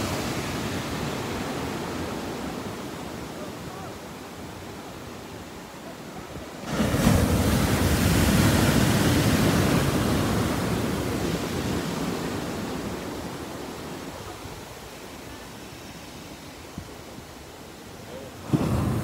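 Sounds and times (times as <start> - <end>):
ocean wave breaking: 0.0 - 16.2, 18.2 - 19.0.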